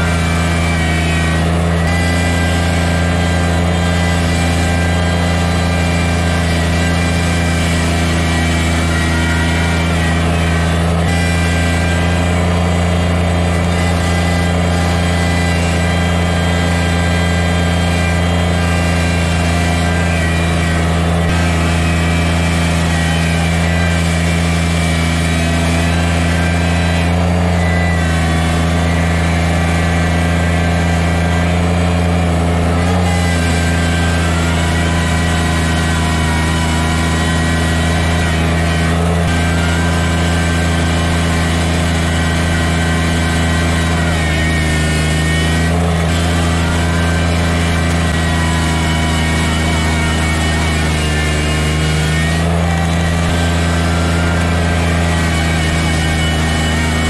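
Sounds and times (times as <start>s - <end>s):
thin high whine: 0.0s - 57.0s
tractor diesel engine running: 0.0s - 57.0s.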